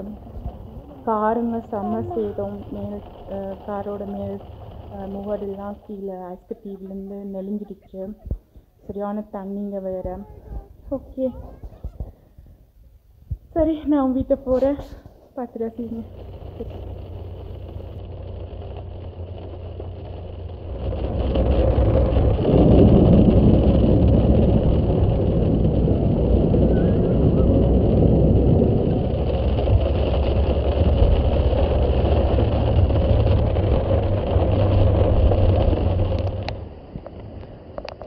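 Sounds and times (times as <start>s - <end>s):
engine and road rumble: 0.0s - 38.0s.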